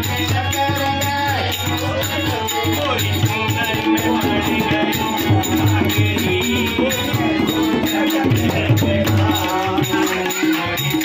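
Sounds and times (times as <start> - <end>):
harmonium notes: 0.0 - 11.0
tabla drums fast rhythm: 0.0 - 11.0
voices singing: 0.0 - 11.0.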